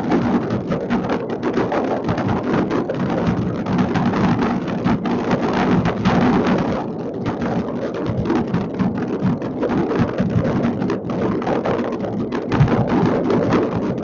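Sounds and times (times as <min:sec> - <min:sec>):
distant fireworks bangs and crackles: 0:00.0 - 0:14.0.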